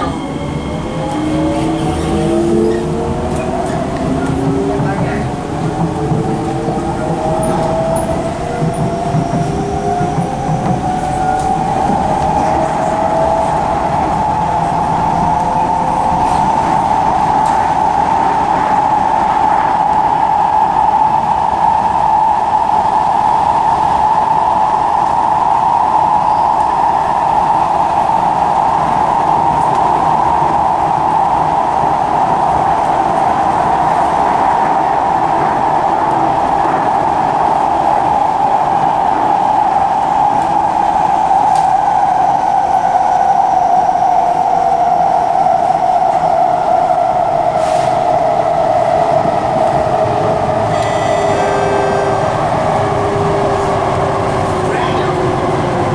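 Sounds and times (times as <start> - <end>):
train running noise with hum: 0.0 - 55.9.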